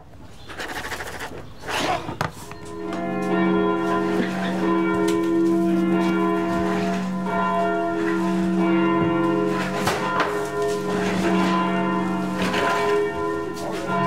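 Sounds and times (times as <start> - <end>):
ringing bell-like tones: 2.5 - 14.0.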